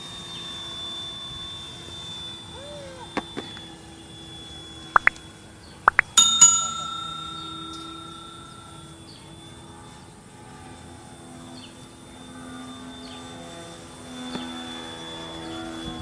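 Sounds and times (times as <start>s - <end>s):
rc plane motor droning: 0.0s - 5.8s, 8.6s - 16.0s.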